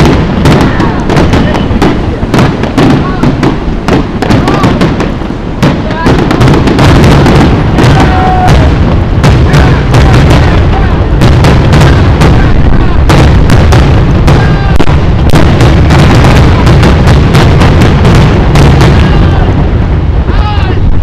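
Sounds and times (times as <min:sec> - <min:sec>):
fireworks bursting with sharp bangs: 0:00.0 - 0:21.0
heavy low rumble: 0:00.0 - 0:21.0.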